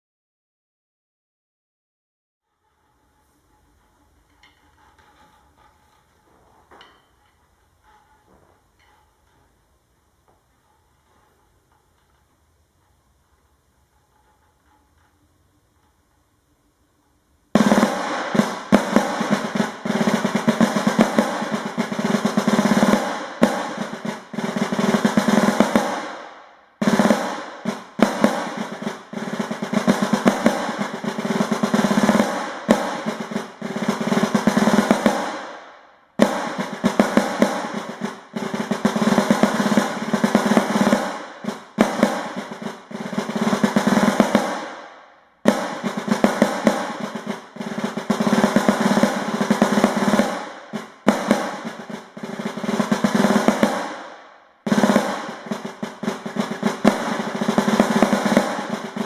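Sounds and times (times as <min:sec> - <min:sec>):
field drum rolls and strokes: 0:02.5 - 0:59.0.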